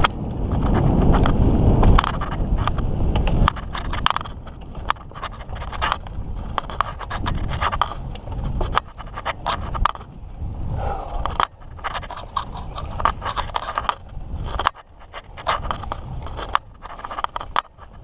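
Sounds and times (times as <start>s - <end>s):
bike rattling and clicking: 0.0s - 18.0s
bike tyres crunching on dirt: 0.0s - 18.0s
wind rumble on microphone: 0.0s - 18.0s.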